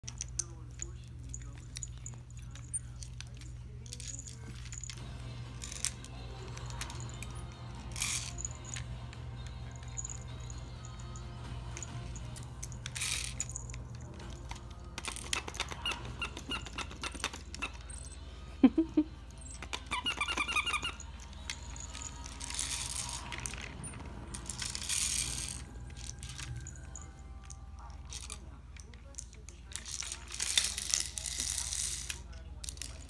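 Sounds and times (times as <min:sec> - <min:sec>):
plastic toy ball rattling: 0:00.0 - 0:18.2, 0:19.3 - 0:33.0.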